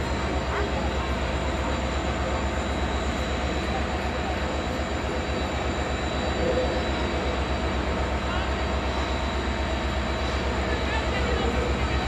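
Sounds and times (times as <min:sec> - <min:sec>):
diesel locomotive engine throbbing: 0:00.0 - 0:12.0.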